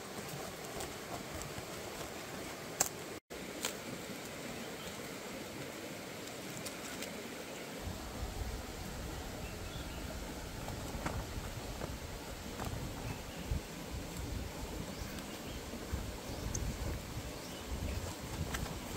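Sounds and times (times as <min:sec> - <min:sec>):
steady hiss: 0:00.0 - 0:18.9.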